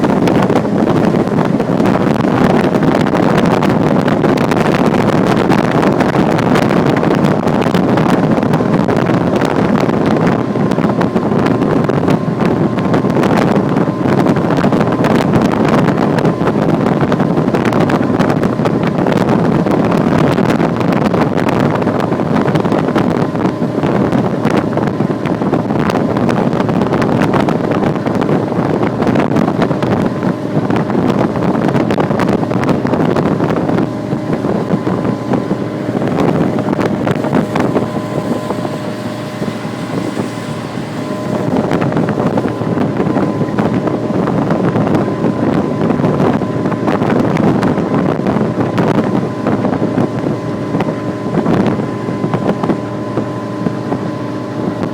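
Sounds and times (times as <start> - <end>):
motorboat engine running: 0.0 - 54.9
water rushing: 0.0 - 54.9
wind buffeting microphone: 0.0 - 54.9.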